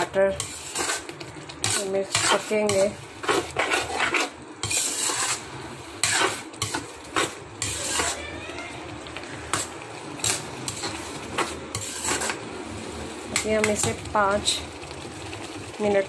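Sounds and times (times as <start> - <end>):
metal spoon scraping a pan: 0.0 - 8.4, 9.4 - 14.6.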